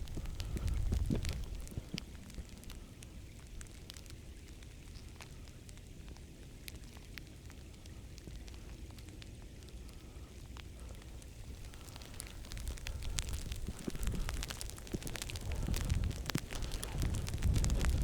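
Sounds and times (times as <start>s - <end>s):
sleet ticking on clothing: 0.0s - 18.0s.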